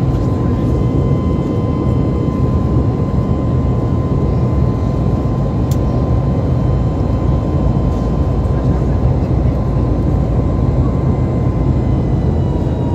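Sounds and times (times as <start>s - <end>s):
airplane cabin engine noise: 0.0s - 12.9s.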